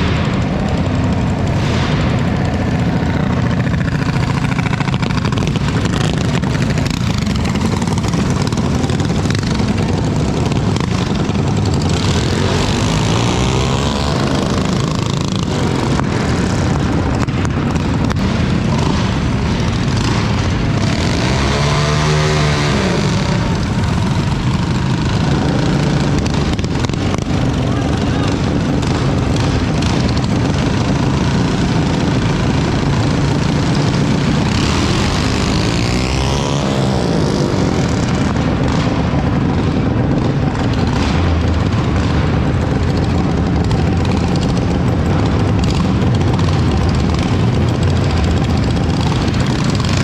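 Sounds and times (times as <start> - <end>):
mini bike engines running: 0.0 - 50.0.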